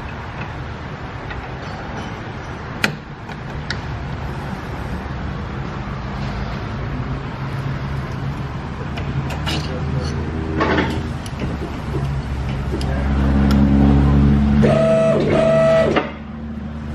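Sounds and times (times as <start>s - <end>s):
workshop background drone: 0.0s - 16.9s.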